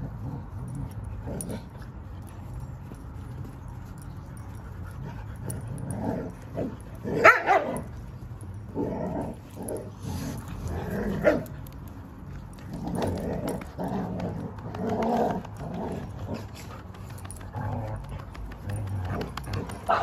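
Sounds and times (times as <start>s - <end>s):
dogs barking and growling: 0.0s - 20.0s.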